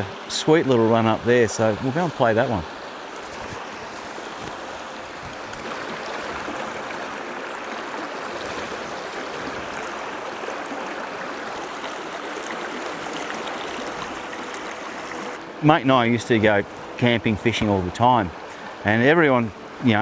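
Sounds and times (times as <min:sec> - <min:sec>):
stream running over rocks: 0:00.0 - 0:20.0.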